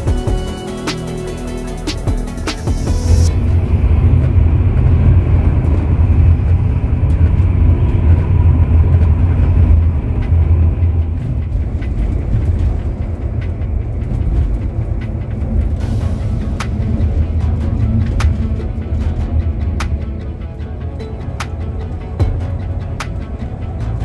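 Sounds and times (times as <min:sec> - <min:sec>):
coach engine and road noise: 0:00.0 - 0:24.0.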